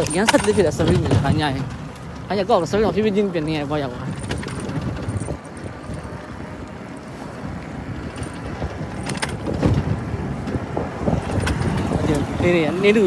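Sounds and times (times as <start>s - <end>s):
road noise on wet street: 0.0s - 13.0s
wind noise: 0.0s - 13.0s.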